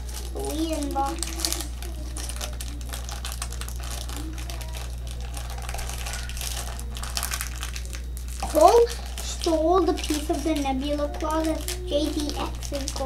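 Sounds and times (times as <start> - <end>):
packaging being opened: 0.0 - 13.0
small plastic pieces rattling: 0.0 - 13.0.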